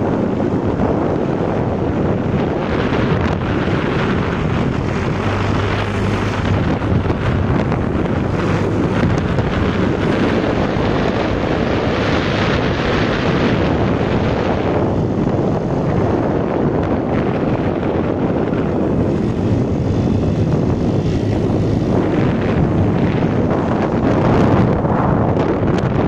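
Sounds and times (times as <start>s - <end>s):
scooter engine humming: 0.0s - 26.0s
wind rushing over microphone: 0.0s - 26.0s.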